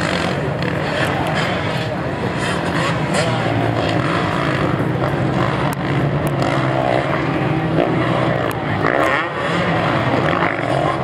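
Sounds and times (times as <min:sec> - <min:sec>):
dirt bikes revving: 0:00.0 - 0:11.0.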